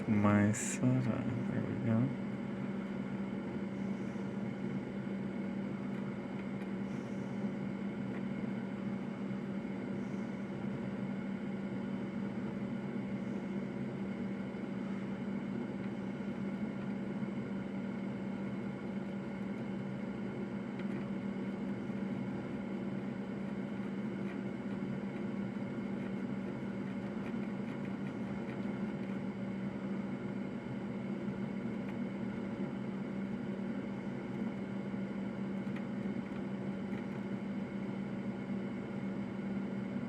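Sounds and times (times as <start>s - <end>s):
extractor fan whirring: 0.0s - 40.0s.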